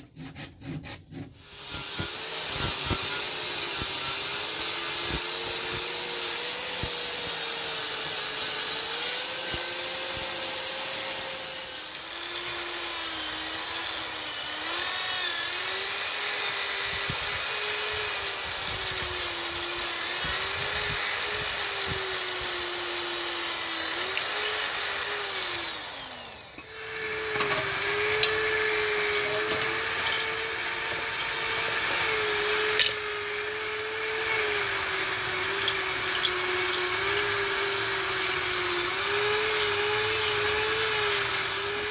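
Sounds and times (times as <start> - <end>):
angle grinder sanding wood: 0.0 - 41.9
electric drill boring into wood: 1.4 - 41.9.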